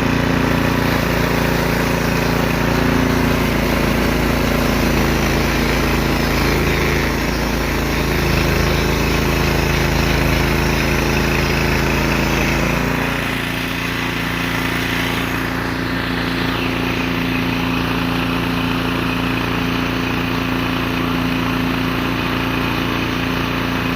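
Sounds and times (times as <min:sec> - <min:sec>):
small gasoline engine running: 0:00.0 - 0:23.9.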